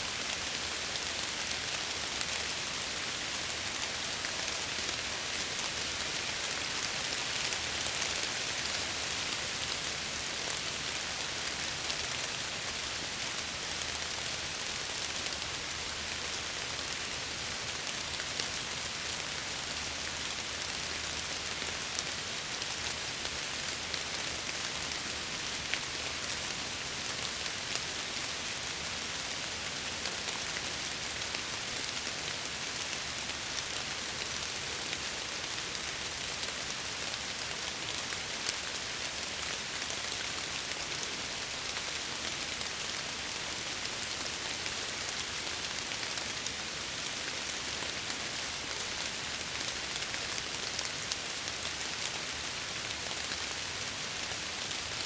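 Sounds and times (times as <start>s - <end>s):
rain pattering on a window: 0.2s - 55.0s.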